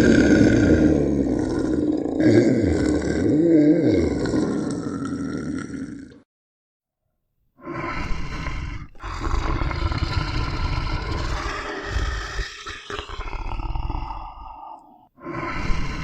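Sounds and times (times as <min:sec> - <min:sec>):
monster growl: 0:00.0 - 0:06.2, 0:07.7 - 0:16.0
monster roar: 0:00.0 - 0:06.2, 0:07.7 - 0:16.0.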